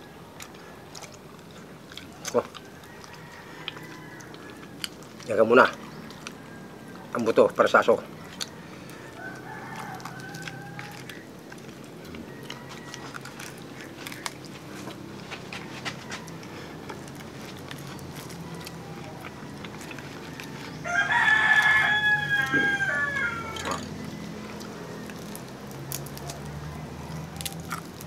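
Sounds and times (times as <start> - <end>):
rooster crowing: 2.4 - 7.1, 7.8 - 27.9.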